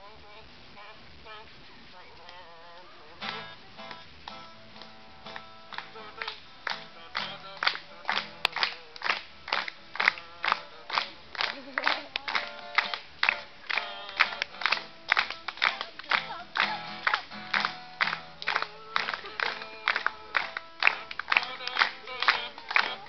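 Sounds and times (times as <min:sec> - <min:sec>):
acoustic guitar strumming: 0:03.2 - 0:23.0.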